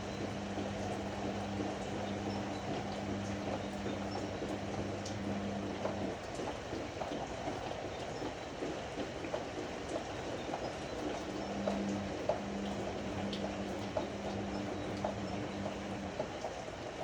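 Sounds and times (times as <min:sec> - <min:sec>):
washer-dryer low hum: 0:00.0 - 0:17.0.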